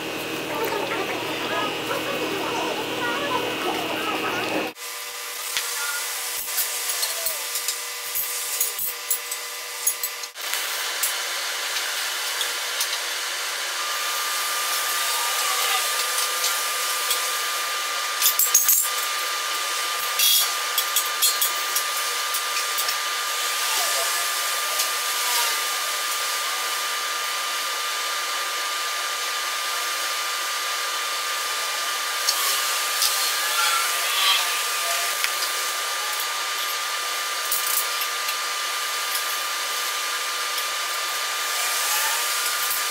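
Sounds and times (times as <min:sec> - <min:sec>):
welding torch hissing: 0:00.0 - 0:42.9.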